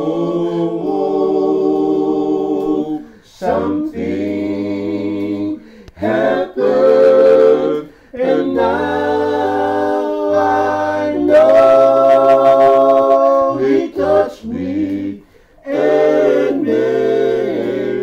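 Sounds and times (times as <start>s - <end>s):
unaccompanied hymn singing: 0.0s - 18.0s.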